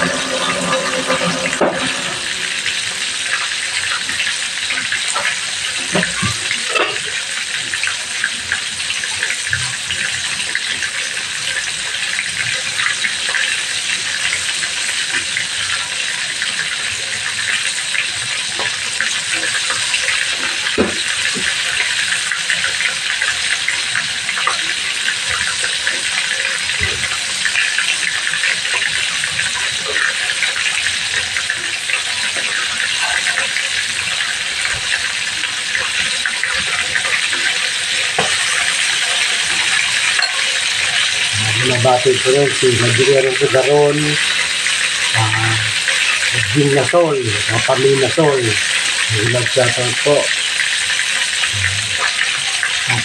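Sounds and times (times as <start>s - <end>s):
chicken frying in oil: 0.0s - 53.0s.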